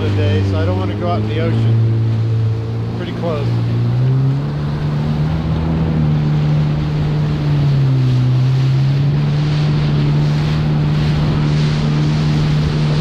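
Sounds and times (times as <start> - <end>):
water rushing: 0.0 - 13.0
watercraft engine running: 0.0 - 13.0
wind buffeting microphone: 0.0 - 13.0.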